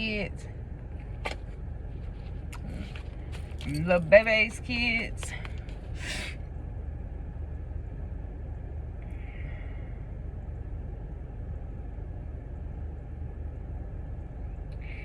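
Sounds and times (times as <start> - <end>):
low rumbling hum: 0.0 - 15.0.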